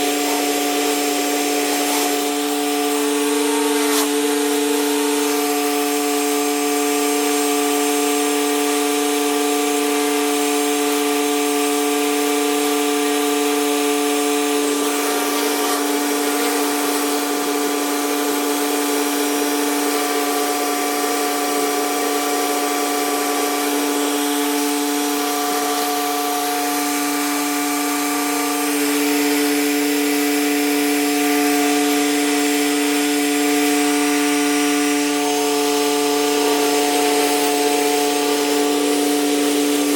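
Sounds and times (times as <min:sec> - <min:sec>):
pressure washer motor humming: 0:00.0 - 0:39.9.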